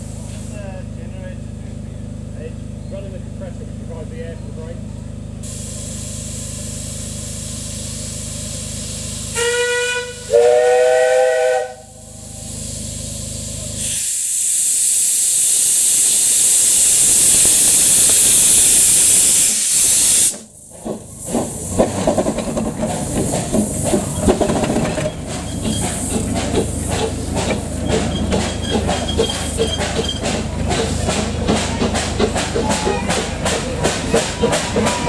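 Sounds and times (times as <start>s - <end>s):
steam locomotive hissing steam: 0.0s - 0.9s, 5.4s - 35.0s
train running with knocks and rattles: 0.0s - 35.0s.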